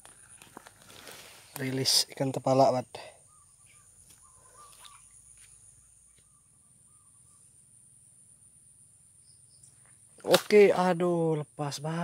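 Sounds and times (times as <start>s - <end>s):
distant bird calls: 0.0s - 10.4s.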